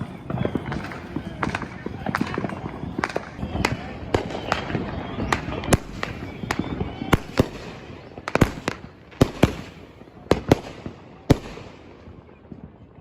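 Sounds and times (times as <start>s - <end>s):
fireworks bangs: 0.0s - 13.0s
fireworks rumble and crackle: 0.0s - 13.0s.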